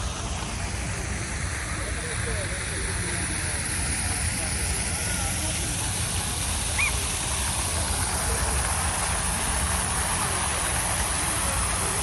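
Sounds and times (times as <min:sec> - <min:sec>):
outdoor rushing noise: 0:00.0 - 0:12.0.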